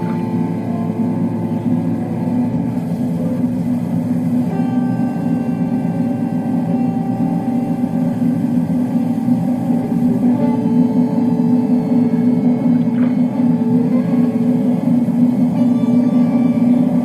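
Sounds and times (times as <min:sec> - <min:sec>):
held music notes: 0:00.0 - 0:17.0
steady low drone: 0:00.0 - 0:17.0.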